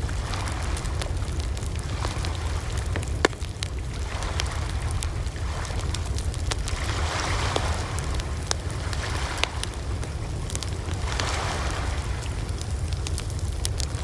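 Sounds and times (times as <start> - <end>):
campfire crackling and popping: 0.0 - 14.0
low fire rumble: 0.0 - 14.0.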